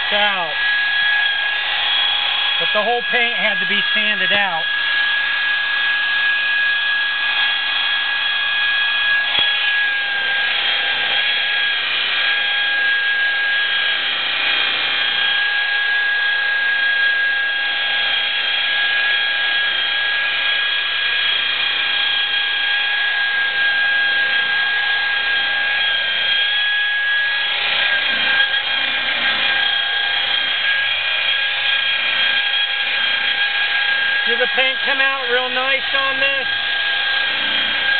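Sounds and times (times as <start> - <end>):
electric polisher motor whine: 0.0 - 37.9.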